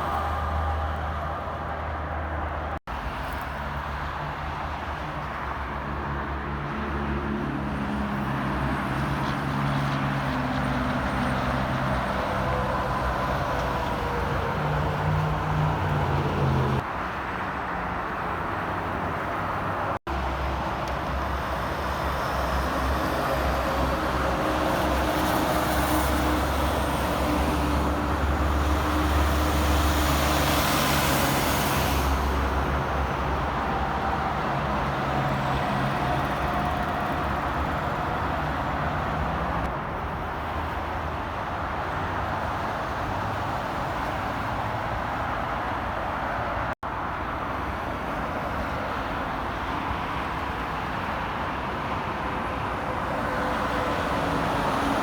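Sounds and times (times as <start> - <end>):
highway traffic hum: 0.0 - 55.0.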